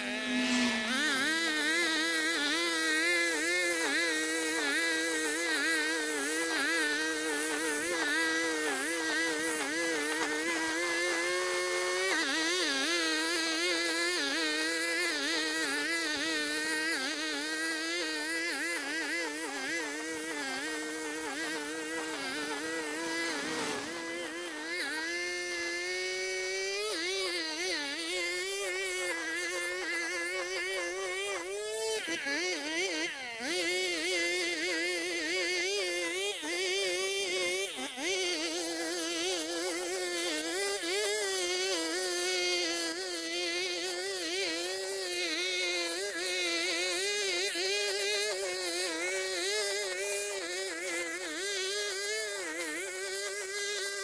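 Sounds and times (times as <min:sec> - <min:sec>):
brushcutter engine cutting grass: 0:00.0 - 0:54.0.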